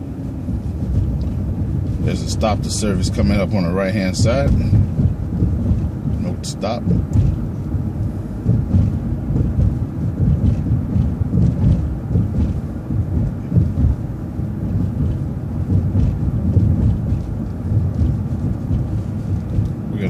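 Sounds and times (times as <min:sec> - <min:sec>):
bus engine and road noise: 0:00.0 - 0:20.0.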